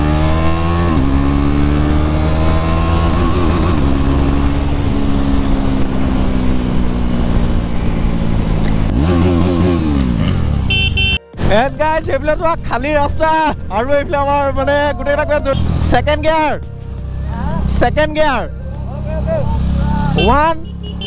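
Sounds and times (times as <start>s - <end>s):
motorcycle engine: 0.0s - 21.0s.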